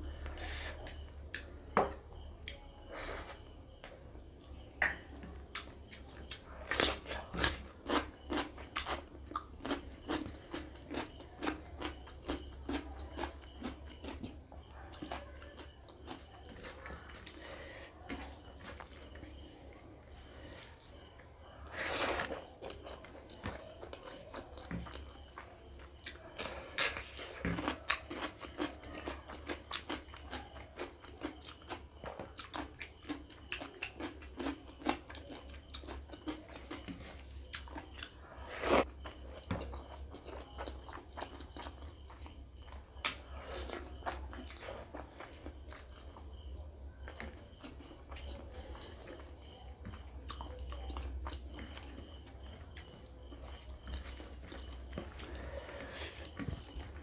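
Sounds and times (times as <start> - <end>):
person chewing food: 2.4 - 57.0.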